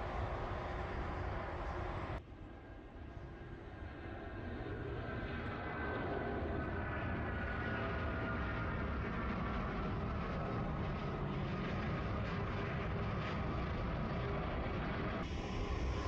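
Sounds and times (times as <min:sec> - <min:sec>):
jet engines rumbling: 0:00.0 - 0:16.0
whining jet tones: 0:00.0 - 0:16.0.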